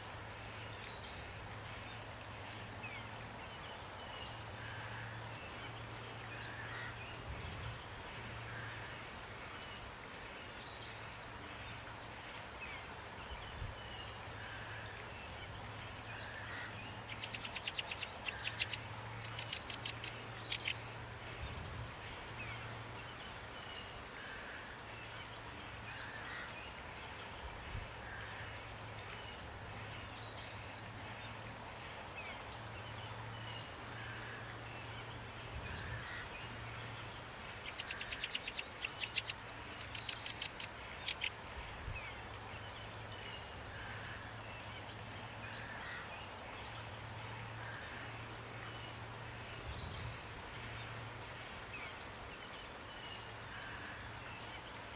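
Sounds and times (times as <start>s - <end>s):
rain hiss: 0.0s - 54.9s
songbirds chirping: 0.0s - 54.9s.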